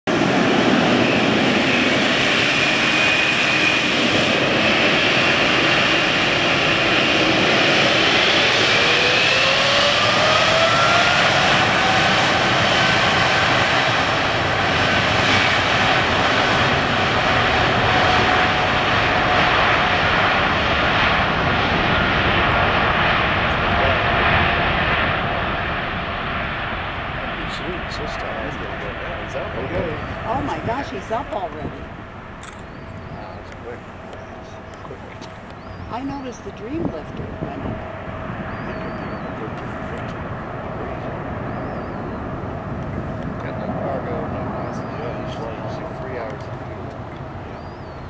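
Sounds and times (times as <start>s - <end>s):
jet engine roar: 0.1s - 48.0s.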